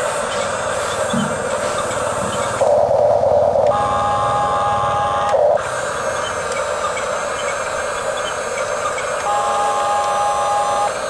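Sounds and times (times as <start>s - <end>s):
high-pitched motor whine: 0.0s - 11.0s
toy bulldozer motor drone: 0.0s - 11.0s.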